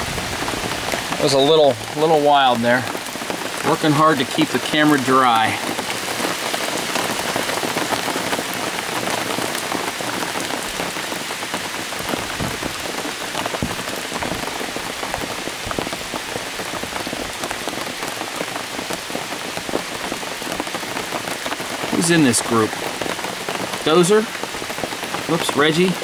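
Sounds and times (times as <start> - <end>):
rain pattering on cart roof: 0.0 - 26.0.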